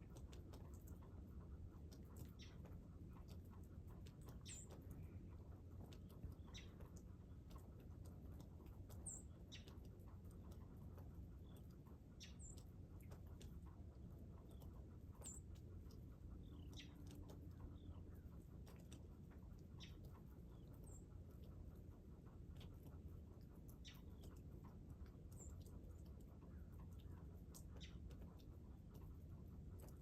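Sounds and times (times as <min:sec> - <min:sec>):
faint high chirps and ticks: 0:00.0 - 0:30.0
low steady rumble: 0:00.0 - 0:30.0.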